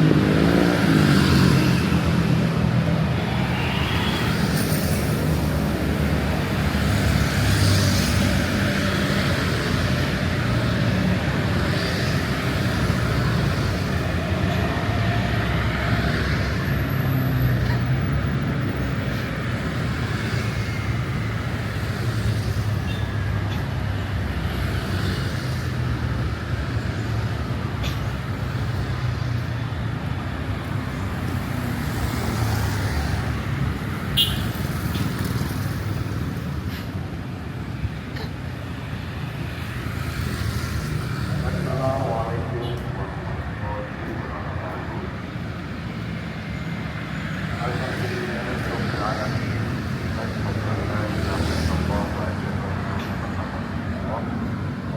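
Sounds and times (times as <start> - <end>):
street traffic rumble: 0.0 - 54.9.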